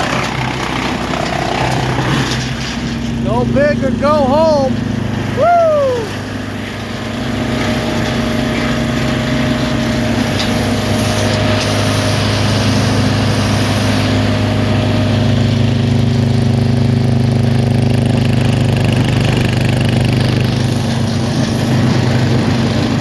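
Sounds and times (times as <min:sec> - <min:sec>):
wood chipper engine running: 0:00.0 - 0:23.0.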